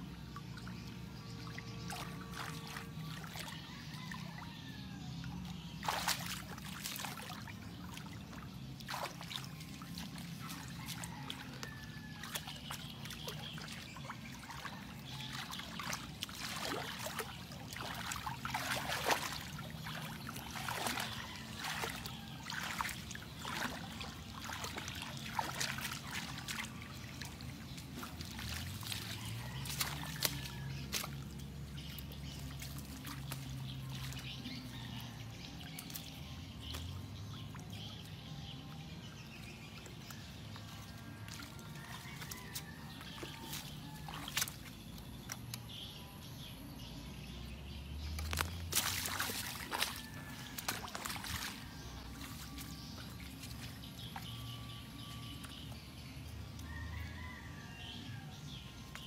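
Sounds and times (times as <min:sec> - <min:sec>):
low steady hum: 0:00.0 - 0:56.7
hands splashing in muddy water: 0:00.3 - 0:04.4, 0:05.0 - 0:38.3, 0:39.2 - 0:45.9, 0:48.0 - 0:56.7.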